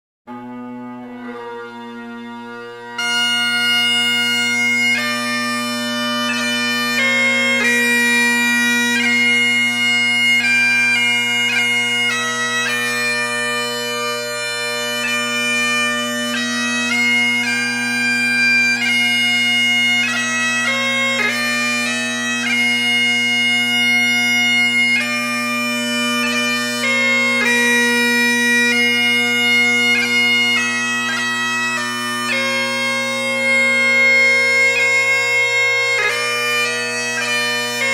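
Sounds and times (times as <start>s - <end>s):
bagpipe chanter melody: 0.3s - 37.9s
bagpipe drones: 0.3s - 37.9s.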